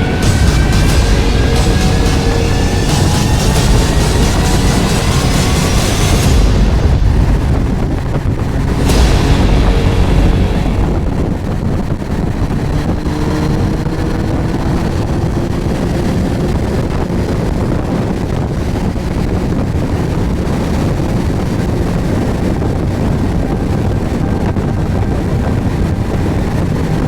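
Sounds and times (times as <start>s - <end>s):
motorcycle engine running: 0.0s - 27.0s
wind rush over microphone: 0.0s - 27.0s.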